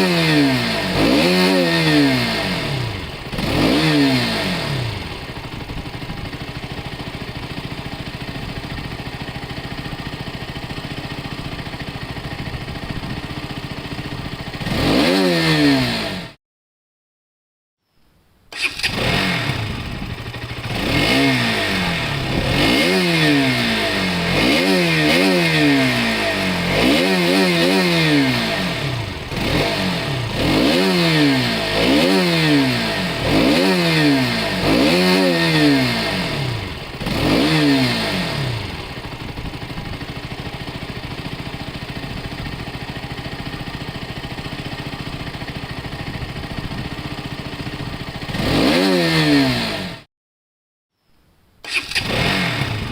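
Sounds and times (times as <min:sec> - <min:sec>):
motorcycle engine idling: 0:00.0 - 0:15.0, 0:18.6 - 0:48.4, 0:51.7 - 0:52.9
motorcycle engine revving: 0:00.0 - 0:16.4, 0:18.5 - 0:50.1, 0:51.6 - 0:52.9.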